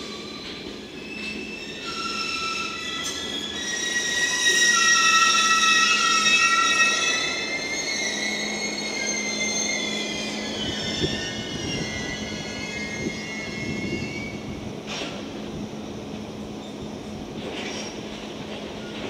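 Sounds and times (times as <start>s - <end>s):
train wheels squealing: 0.0s - 19.0s.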